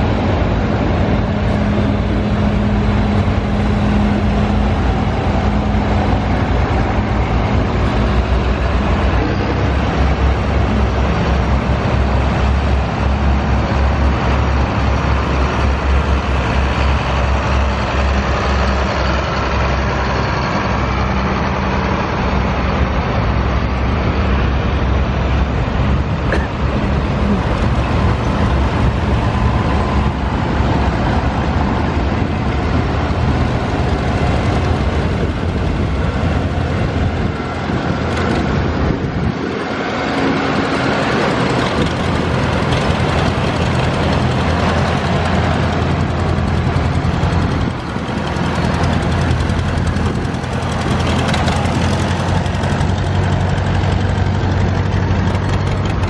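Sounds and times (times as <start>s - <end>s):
tractor engines running: 0.0s - 56.0s.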